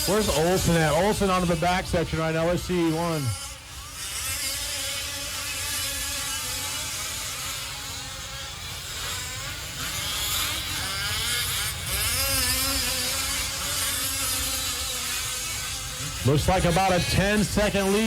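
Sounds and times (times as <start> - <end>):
small two-stroke engines racing: 0.0 - 18.0.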